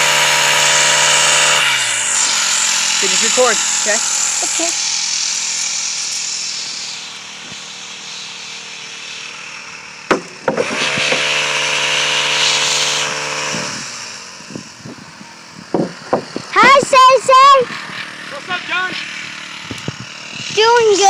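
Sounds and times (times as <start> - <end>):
pole saw engine cutting wood: 0.0 - 21.0.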